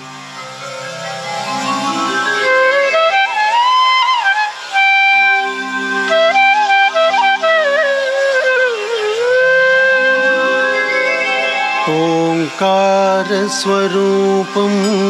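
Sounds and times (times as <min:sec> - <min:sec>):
flute playing ornamented melody: 0:00.0 - 0:15.0
held lower accompaniment: 0:00.0 - 0:15.0.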